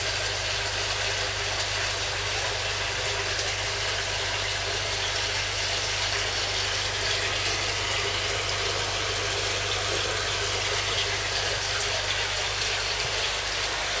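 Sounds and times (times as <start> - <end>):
pump humming: 0.0 - 14.0
running water rushing: 0.0 - 14.0.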